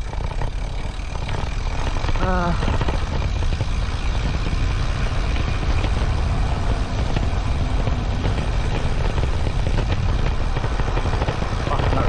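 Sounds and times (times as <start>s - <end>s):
bicycle tyre road noise: 0.0s - 12.0s
wind buffeting microphone: 0.0s - 12.0s.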